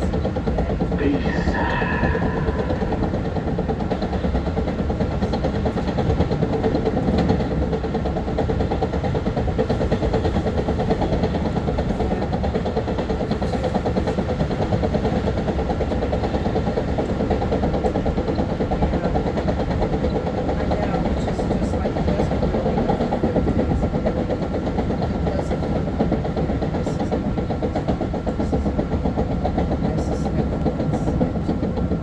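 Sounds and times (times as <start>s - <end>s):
electric train rumbling: 0.0s - 32.0s.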